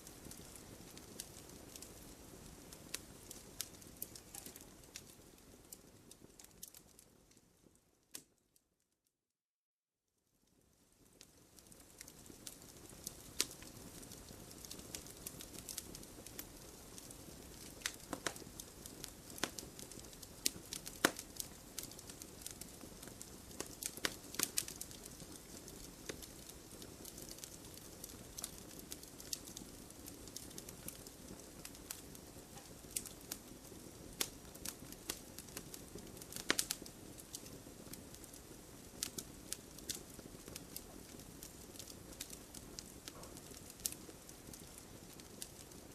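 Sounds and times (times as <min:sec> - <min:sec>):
campfire crackling and popping: 0:00.0 - 0:08.3, 0:10.5 - 0:45.9.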